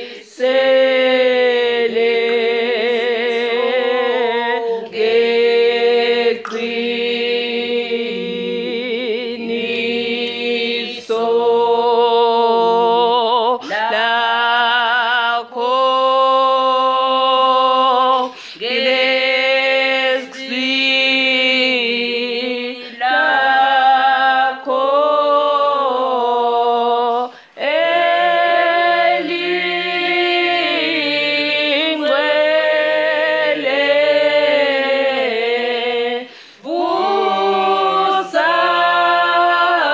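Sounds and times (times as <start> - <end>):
voices singing unaccompanied: 0.0 - 39.9.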